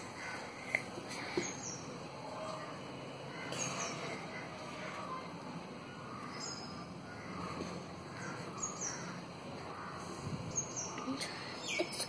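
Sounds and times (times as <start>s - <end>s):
birds chirping: 0.0s - 12.0s
low background noise: 0.0s - 12.0s.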